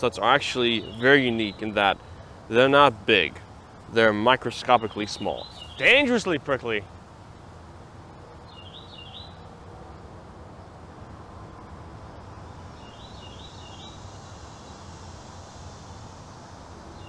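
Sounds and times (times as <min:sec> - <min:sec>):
low outdoor background rumble: 0:00.0 - 0:17.0
songbird singing: 0:00.0 - 0:17.0.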